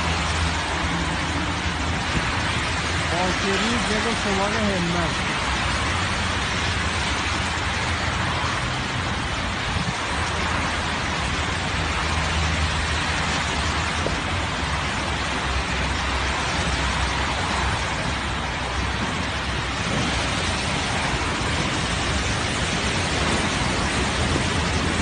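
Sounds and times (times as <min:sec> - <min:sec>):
car traffic on wet road: 0:00.0 - 0:25.0
floodwater rushing down channel: 0:00.0 - 0:25.0
rain: 0:00.0 - 0:25.0.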